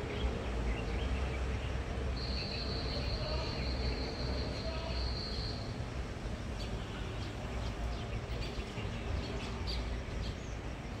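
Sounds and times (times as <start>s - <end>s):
small birds chirping: 0.0s - 5.7s, 6.5s - 11.0s.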